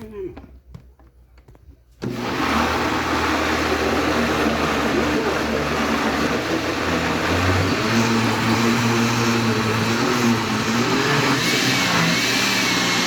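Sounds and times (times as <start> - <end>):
blender running: 2.0 - 13.0.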